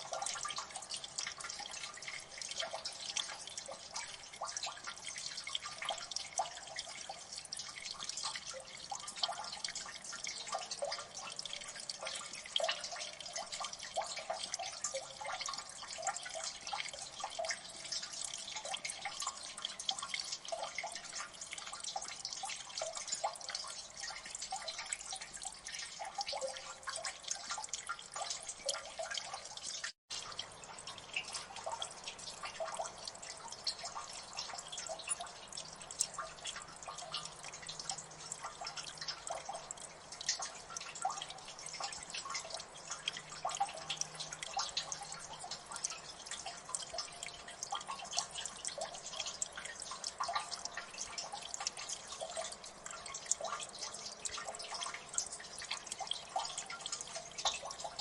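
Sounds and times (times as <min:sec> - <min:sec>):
soft water trickle: 0:00.0 - 0:58.0
water dripping into water: 0:00.0 - 0:58.0.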